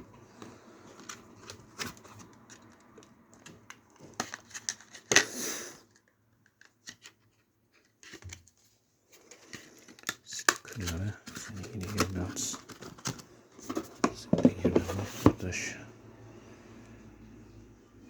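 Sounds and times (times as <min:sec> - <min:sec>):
packaging clicks and rustles: 0:00.1 - 0:15.7.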